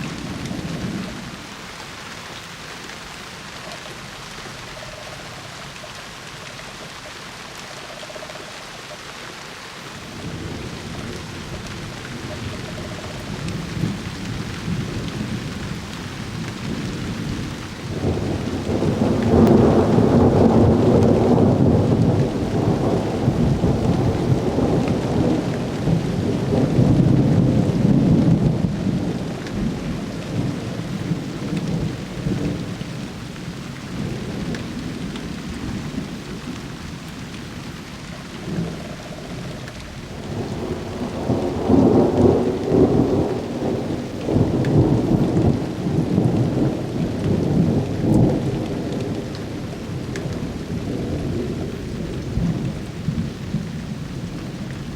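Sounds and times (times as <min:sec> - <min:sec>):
steady rain falling: 0:00.0 - 0:54.9
rolling thunder: 0:10.0 - 0:54.9.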